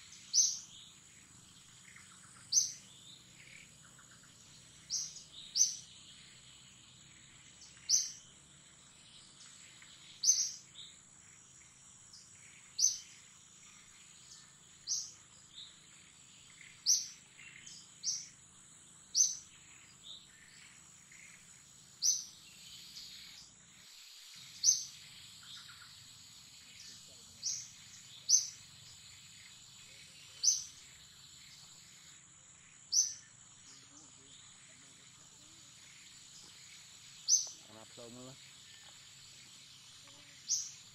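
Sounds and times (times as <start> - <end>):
bird chirping: 0.0 - 40.9
high insect whine: 0.0 - 40.9.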